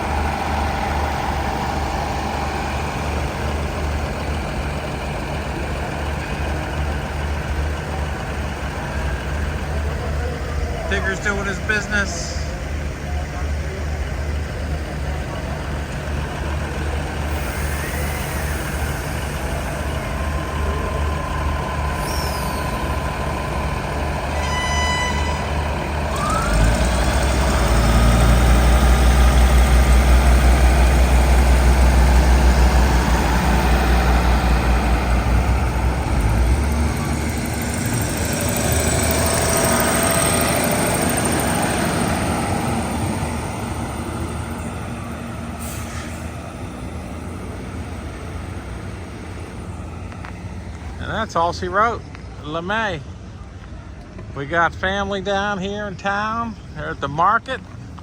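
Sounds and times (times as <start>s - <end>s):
diesel locomotive engine rumble: 0.0s - 58.0s
moving train noise: 0.0s - 58.0s.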